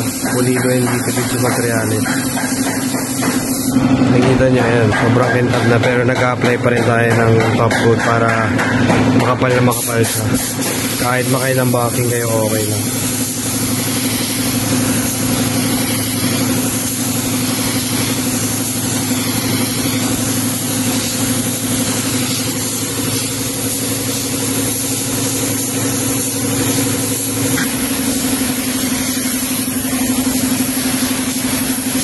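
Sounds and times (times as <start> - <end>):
spray gun hissing: 0.0 - 3.9, 9.7 - 32.0
steady mechanical hum: 0.0 - 32.0.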